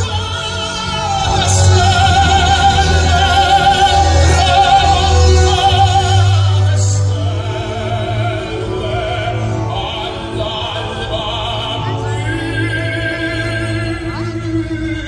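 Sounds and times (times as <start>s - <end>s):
opera singing with vibrato: 0.0s - 15.0s
orchestral music: 0.0s - 15.0s.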